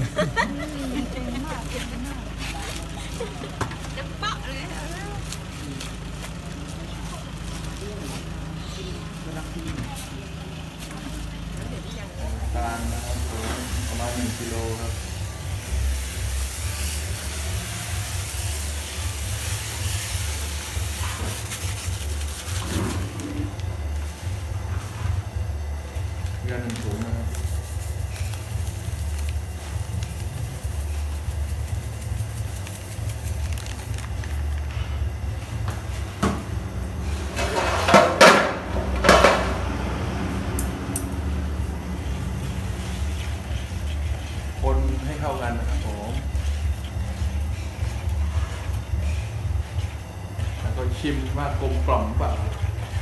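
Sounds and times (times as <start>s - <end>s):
gas burner hissing and rumbling: 0.0s - 53.0s.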